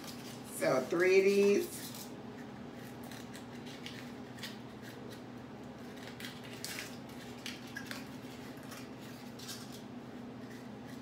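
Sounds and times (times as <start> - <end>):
paper liners crinkling: 0.0 - 5.2, 5.8 - 11.0.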